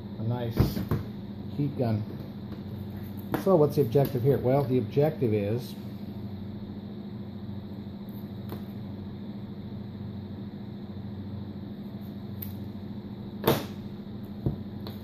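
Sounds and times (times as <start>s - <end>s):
heat gun fan hum: 0.0s - 15.0s.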